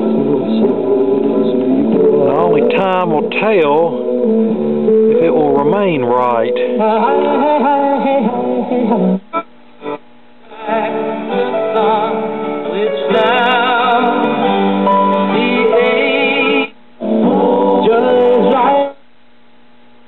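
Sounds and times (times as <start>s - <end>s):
music with singing on radio: 0.0s - 19.1s.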